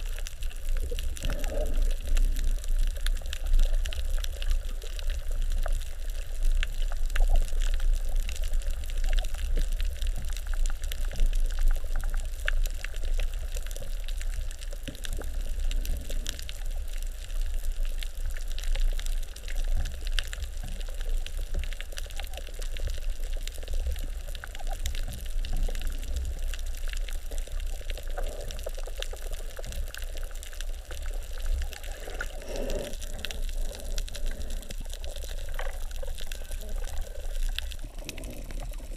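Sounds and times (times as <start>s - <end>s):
fine underwater crackling: 0.0s - 38.9s
underwater low rumble: 0.0s - 38.9s.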